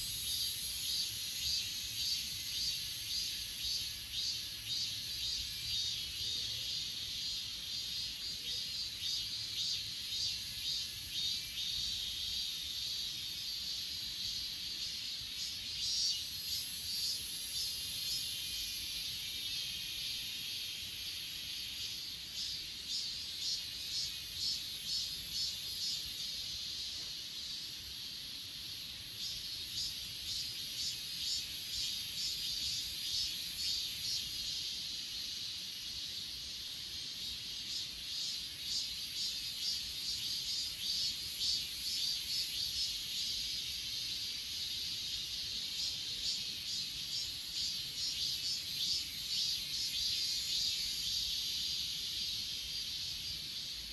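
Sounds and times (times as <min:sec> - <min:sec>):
high steady insect trill: 0:00.0 - 0:53.9
insects chirping rhythmically: 0:00.0 - 0:53.9.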